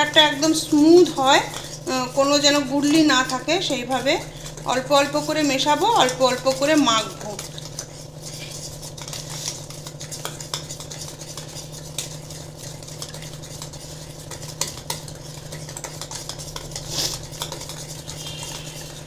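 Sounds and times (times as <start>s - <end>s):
whisk beating batter in bowl: 0.0s - 19.0s
whisk wires clicking on bowl: 0.0s - 19.0s.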